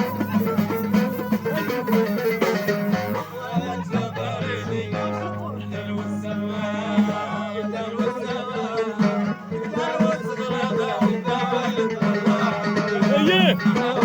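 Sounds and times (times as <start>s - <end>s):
person singing: 0.0s - 14.0s
plucked string instrument melody: 0.0s - 14.0s.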